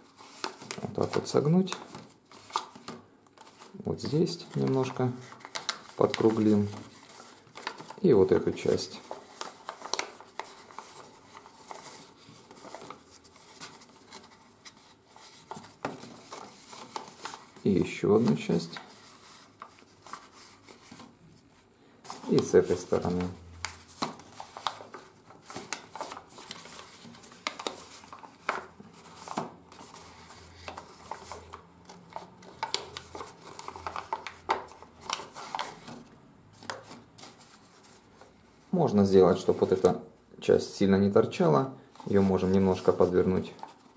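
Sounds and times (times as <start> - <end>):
paper creasing crackles: 0.0 - 21.2, 22.0 - 40.0, 42.0 - 43.9
paper rustling and crinkling: 0.0 - 40.0, 41.9 - 43.9.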